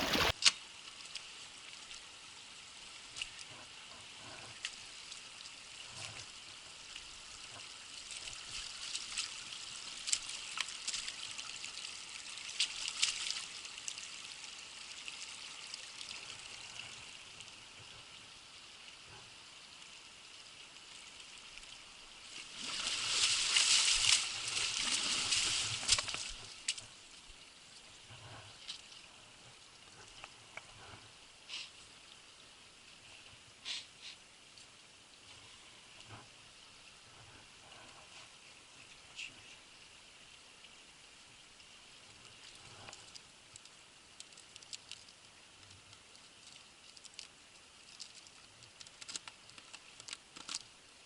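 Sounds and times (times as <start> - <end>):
shallow stream trickling: 0.0 - 51.0.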